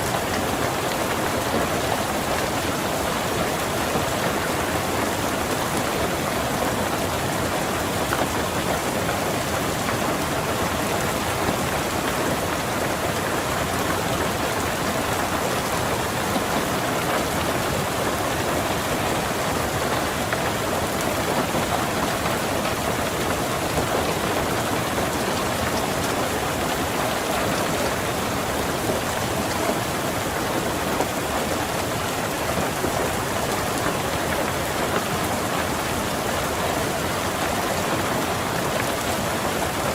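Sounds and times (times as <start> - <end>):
rain pattering on a car: 0.0 - 39.9.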